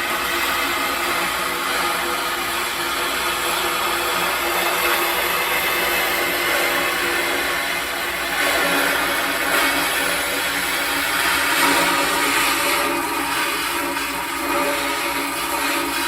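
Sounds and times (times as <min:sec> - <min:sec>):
cordless drill motor whine: 0:00.0 - 0:16.0.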